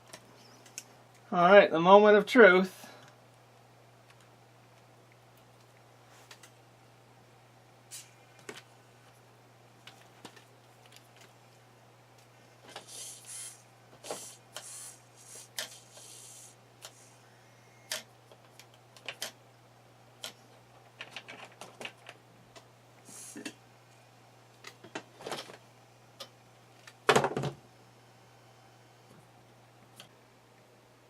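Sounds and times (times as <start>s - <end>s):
faint steady low hum: 0.0s - 31.0s.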